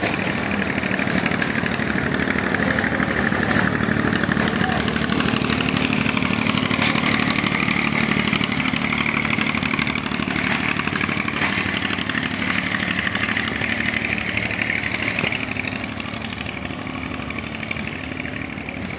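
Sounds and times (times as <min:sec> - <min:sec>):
train wheels clattering on rails: 0:00.0 - 0:18.9.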